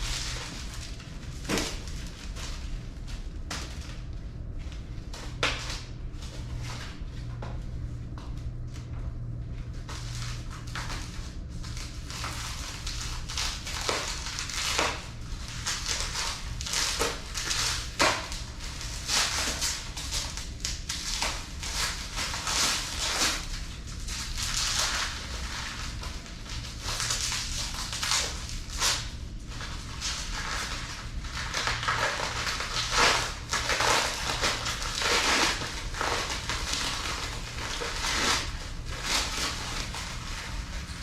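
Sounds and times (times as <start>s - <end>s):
packaging crinkling by hand: 0.0s - 7.4s, 9.5s - 41.0s.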